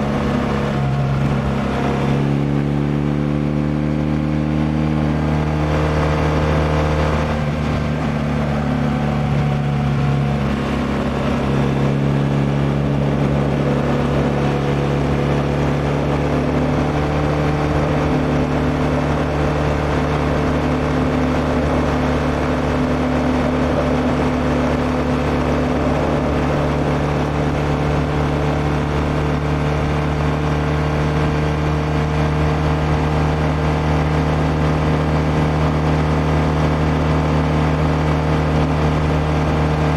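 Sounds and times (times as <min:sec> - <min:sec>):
motorcycle engine running: 0:00.0 - 0:39.9
rush of wind noise: 0:00.0 - 0:39.9.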